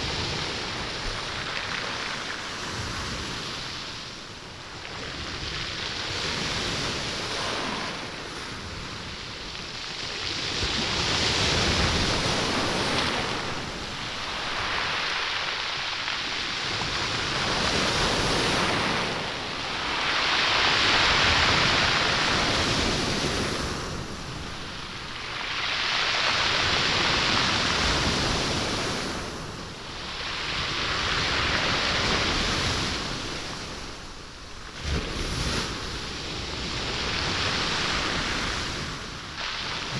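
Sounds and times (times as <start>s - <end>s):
waves washing over stone beach: 0.0s - 39.9s.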